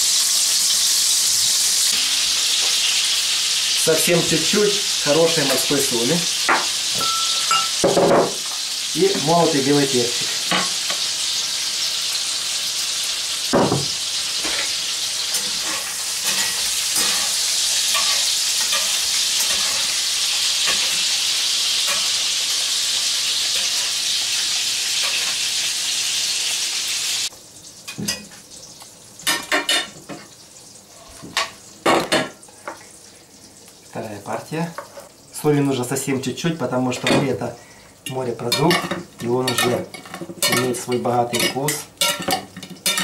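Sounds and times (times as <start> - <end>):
food sizzling in a pan: 0.0 - 43.0.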